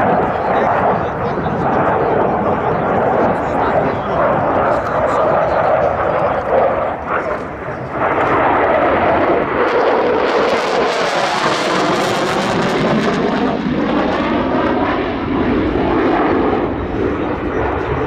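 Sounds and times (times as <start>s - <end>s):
fighter jet engine roaring: 0.0s - 18.0s.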